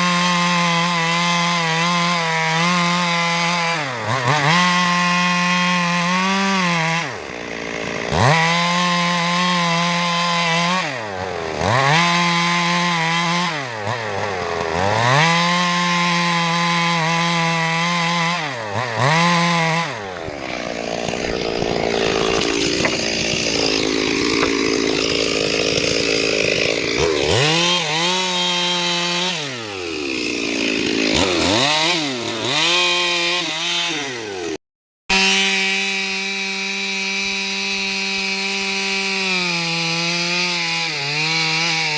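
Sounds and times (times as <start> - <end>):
chainsaw revving and cutting wood: 0.0 - 41.9.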